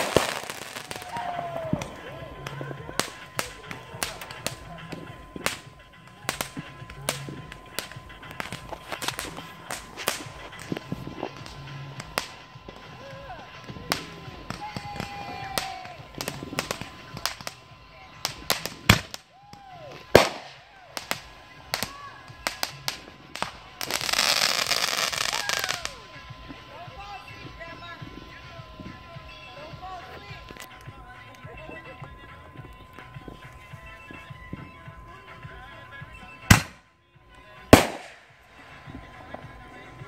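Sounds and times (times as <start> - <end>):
firework launch hiss: 0.0 - 35.7, 37.7 - 40.0
loud firework bangs: 0.0 - 36.8, 37.7 - 40.0
firework pops and crackles: 0.0 - 40.0.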